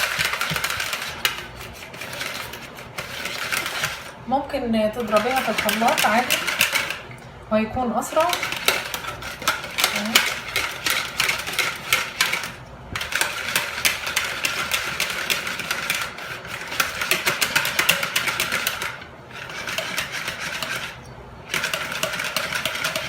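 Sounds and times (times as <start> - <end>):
whisk beating batter in bowl: 0.0 - 4.2, 4.9 - 7.2, 8.0 - 23.0.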